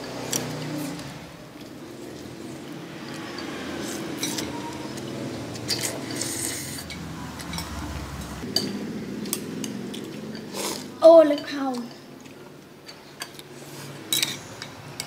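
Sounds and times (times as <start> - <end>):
utensils clinking on ceramic bowl: 0.0 - 10.5, 11.2 - 13.5, 14.1 - 15.0.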